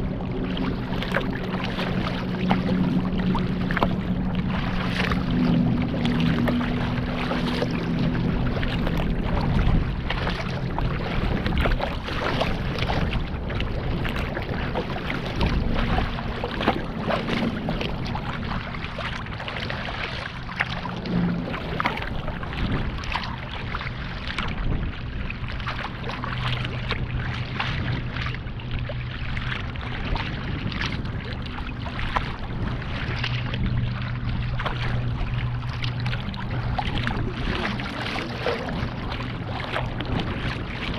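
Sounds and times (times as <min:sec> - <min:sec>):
waves splashing against kayak: 0:00.0 - 0:40.9.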